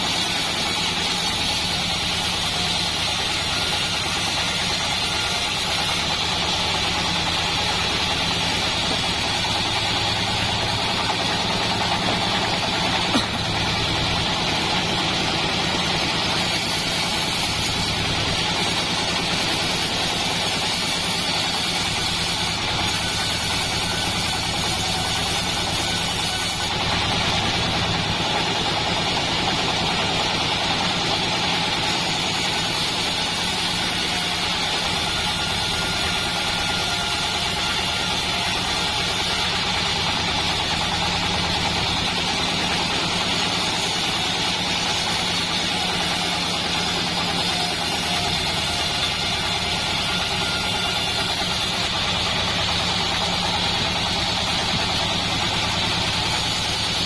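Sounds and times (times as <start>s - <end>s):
bandsaw mill sawing wood: 0.0s - 57.0s.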